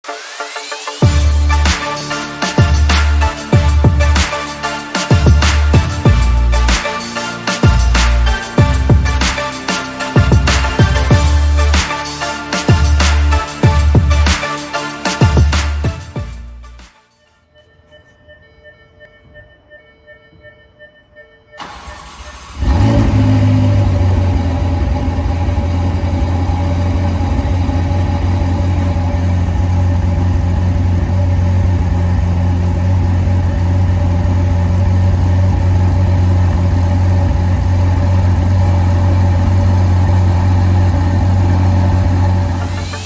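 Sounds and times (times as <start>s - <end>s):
car engine cold start and idle: 1.0s - 16.8s, 21.6s - 43.0s.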